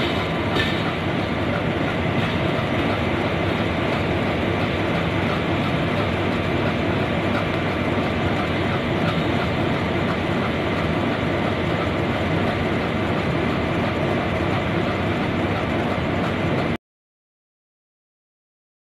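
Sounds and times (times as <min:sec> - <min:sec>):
train coaches rolling over tracks: 0:00.0 - 0:16.8.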